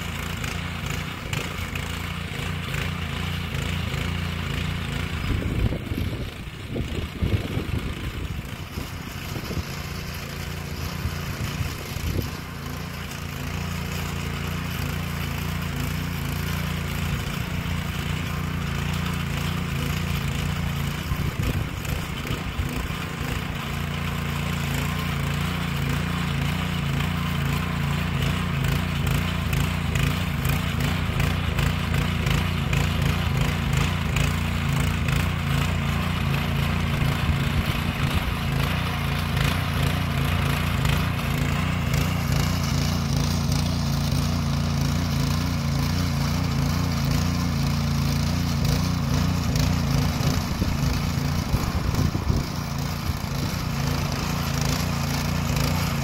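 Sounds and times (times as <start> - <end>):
motor hoe engine tilling: 0.0 - 56.0.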